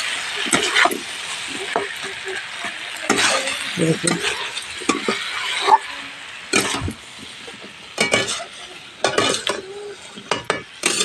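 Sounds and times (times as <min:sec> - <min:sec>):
faint sizzle: 0:00.0 - 0:11.0
metal spatula scraping a pan: 0:00.4 - 0:06.9, 0:08.0 - 0:11.0.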